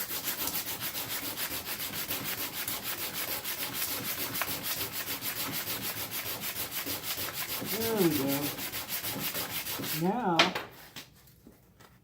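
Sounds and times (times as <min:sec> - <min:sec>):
sanding on sandpaper: 0:00.0 - 0:10.4.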